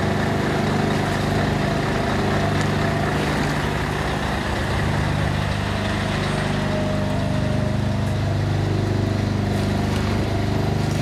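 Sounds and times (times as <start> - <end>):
lorry diesel engine running: 0.0 - 11.0.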